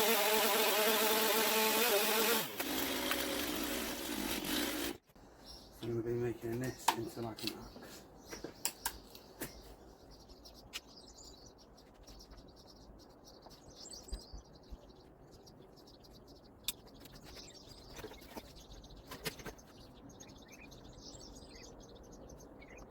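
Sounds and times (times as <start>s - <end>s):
faint birds chirping: 3.4s - 22.9s.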